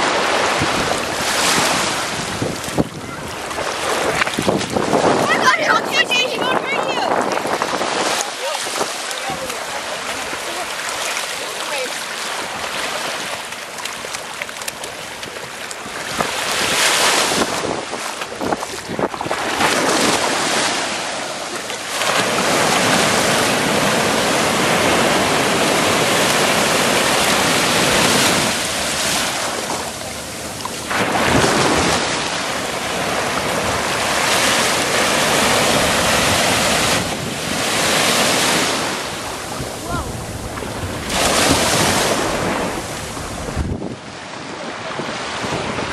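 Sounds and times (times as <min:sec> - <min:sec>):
wind buffeting microphone: 0:00.0 - 0:10.8, 0:15.1 - 0:21.2, 0:22.2 - 0:45.9
small waves breaking: 0:00.0 - 0:45.9.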